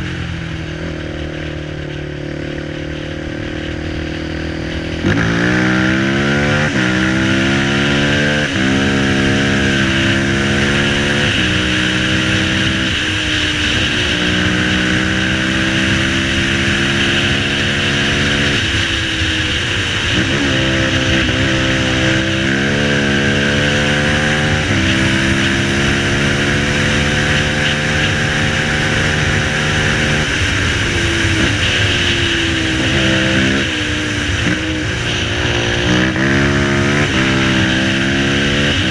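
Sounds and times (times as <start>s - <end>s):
quad engine revving through gears: 4.2s - 18.8s, 19.6s - 38.9s.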